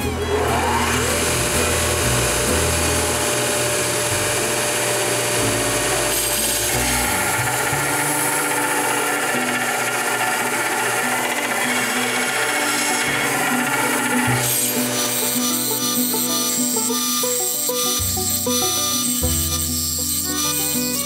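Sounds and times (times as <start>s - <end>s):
belt sander grinding steel: 0.0s - 21.0s.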